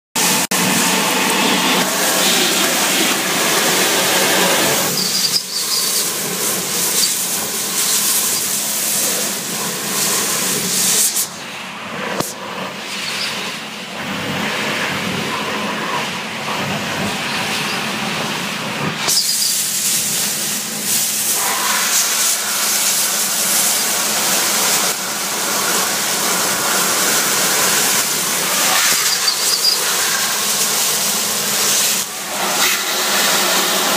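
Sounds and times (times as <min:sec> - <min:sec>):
vacuum hose sucking air: 0:00.2 - 0:33.9.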